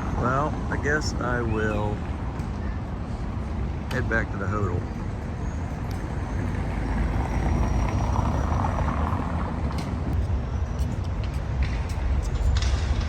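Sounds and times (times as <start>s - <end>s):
street traffic rumbling: 0.0s - 13.0s.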